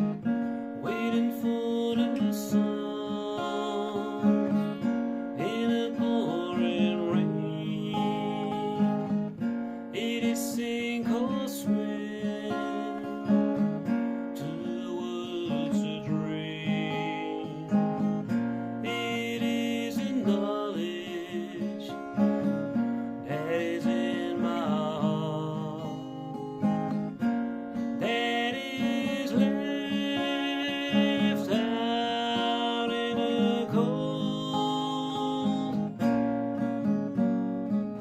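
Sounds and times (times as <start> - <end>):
acoustic guitar blues song: 0.0 - 38.0.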